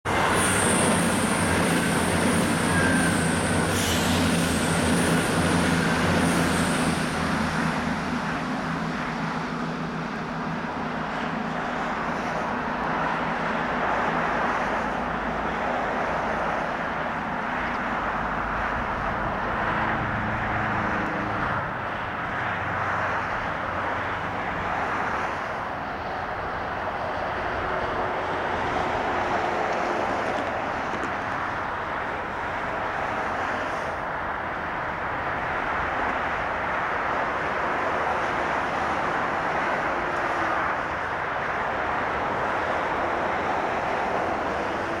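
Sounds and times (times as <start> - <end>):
diesel train engines droning: 0.0 - 45.0
road traffic rushing: 0.0 - 45.0.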